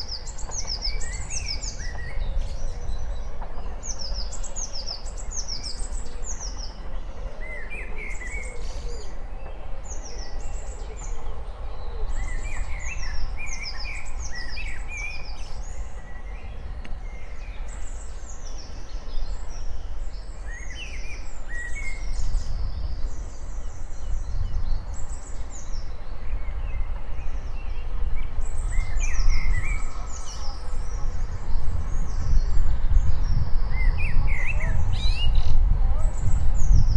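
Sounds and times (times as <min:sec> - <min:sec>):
birds singing: 0:00.0 - 0:36.9
steam locomotive rumble: 0:00.0 - 0:36.9.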